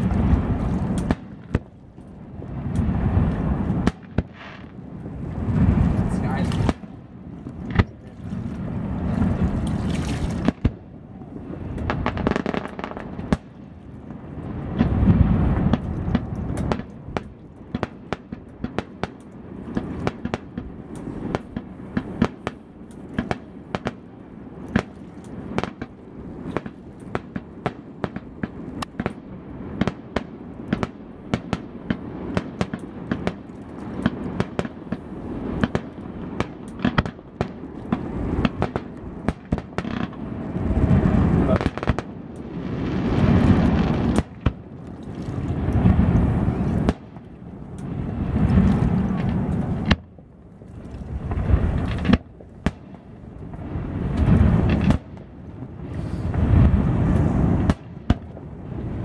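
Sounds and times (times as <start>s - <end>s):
fireworks deep booms: 0.0s - 9.7s, 10.3s - 22.6s, 24.7s - 50.3s, 51.1s - 59.0s
crackling fireworks pops: 0.0s - 59.0s.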